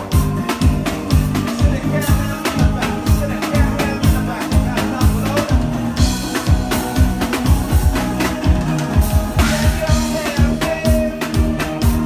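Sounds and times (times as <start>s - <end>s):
live soca band music: 0.0s - 12.0s.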